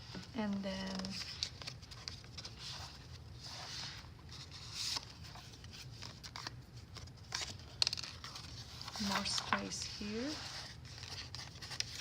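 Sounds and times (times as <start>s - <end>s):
paper rustling and sliding: 0.0s - 12.0s.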